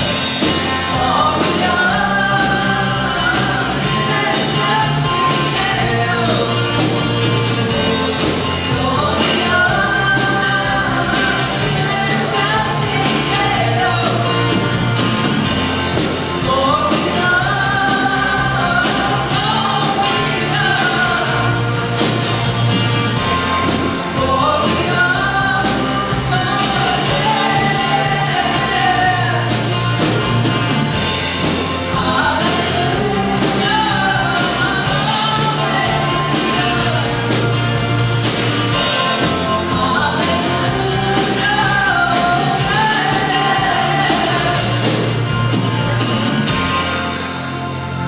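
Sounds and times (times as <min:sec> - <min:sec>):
drum kit steady beat: 0:00.0 - 0:48.0
electric and acoustic guitars: 0:00.0 - 0:48.0
keyboard: 0:00.0 - 0:48.0.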